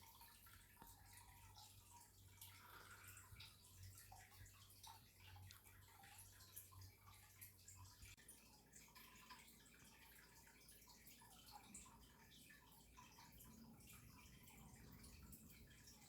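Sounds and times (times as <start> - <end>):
faint water dripping: 0.0 - 16.0.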